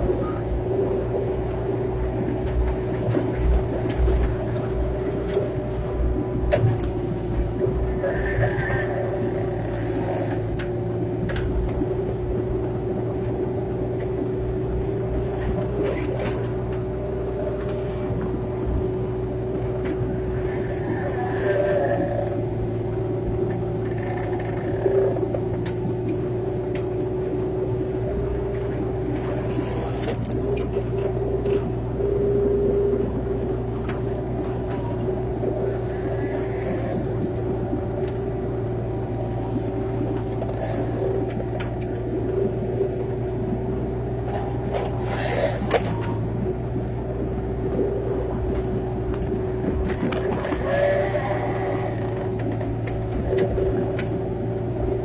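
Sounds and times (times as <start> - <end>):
diesel engine rumbling: 0.0 - 55.0
steady whine: 0.0 - 55.0.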